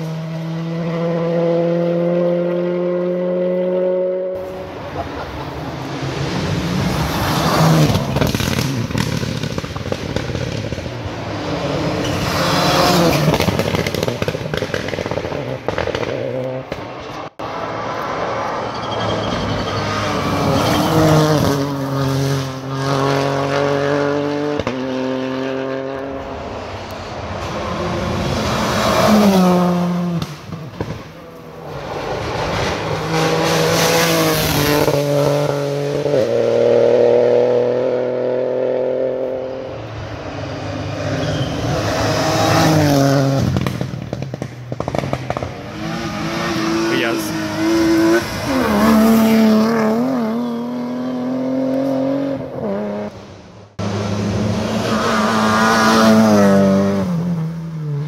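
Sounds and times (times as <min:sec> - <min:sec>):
rally cars revving past: 0:00.0 - 0:58.0.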